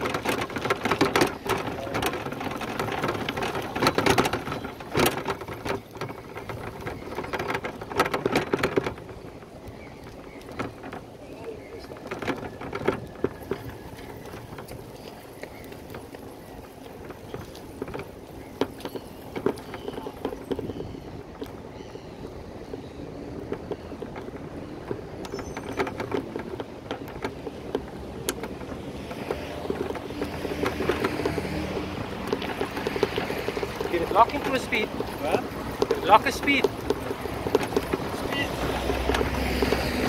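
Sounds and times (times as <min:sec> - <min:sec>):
bicycle clicks and rattles: 0:00.0 - 0:40.0
bicycle riding rumble: 0:00.0 - 0:40.0.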